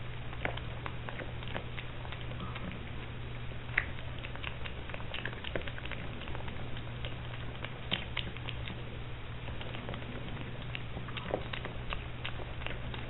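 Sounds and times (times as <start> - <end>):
low steady hum: 0.0 - 13.0
piglet crunching feed pellets: 0.0 - 13.0.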